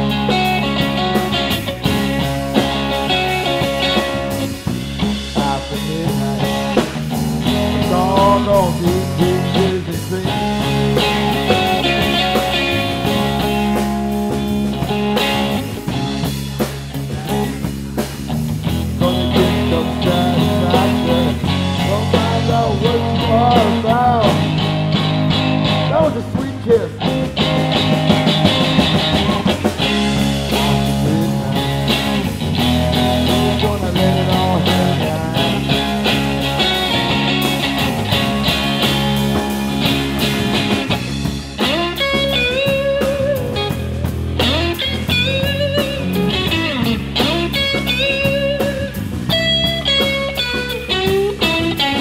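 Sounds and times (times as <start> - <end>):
blues-rock band playing: 0.0 - 52.0
electric guitar lead with bends: 0.0 - 52.0.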